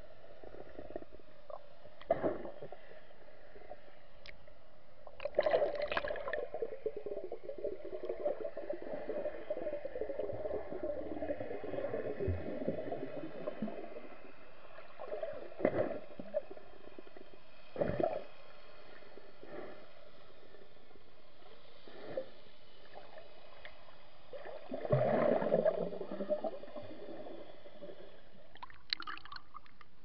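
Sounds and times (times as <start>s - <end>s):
underwater bubbling and gurgling: 0.0s - 30.0s.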